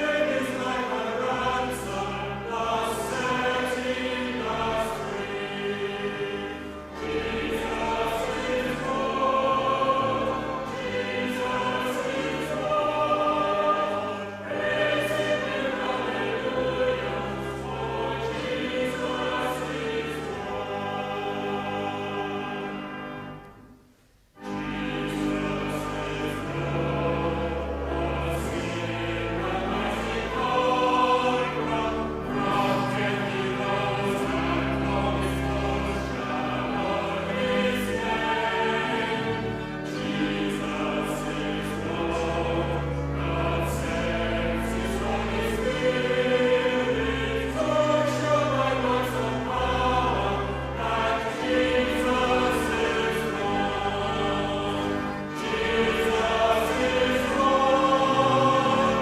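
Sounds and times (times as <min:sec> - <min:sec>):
group singing a hymn: 0:00.0 - 0:23.6, 0:24.4 - 0:59.0.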